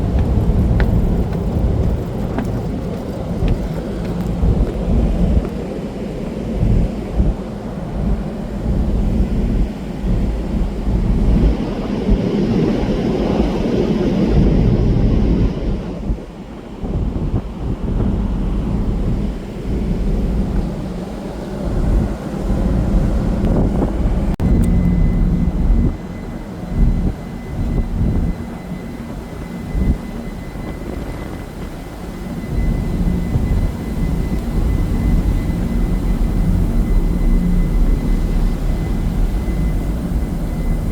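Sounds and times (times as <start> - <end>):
ferry engine rumble: 0.0 - 40.9.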